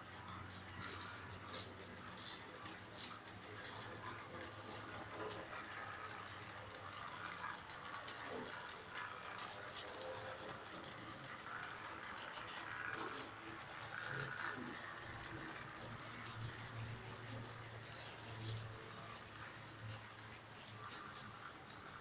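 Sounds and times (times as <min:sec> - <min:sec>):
wheels clicking over rail joints: 0:00.0 - 0:22.0.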